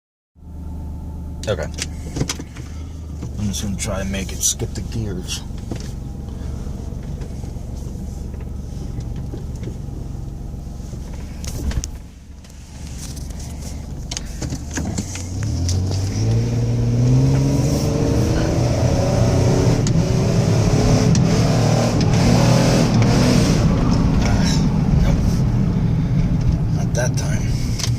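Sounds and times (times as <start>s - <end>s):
car engine revving: 0.4s - 27.9s.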